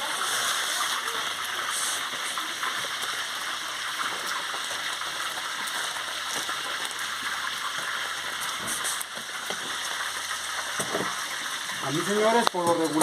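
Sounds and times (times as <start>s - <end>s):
fish frying in oil: 0.0s - 13.0s
small crackles and pops: 0.4s - 13.0s.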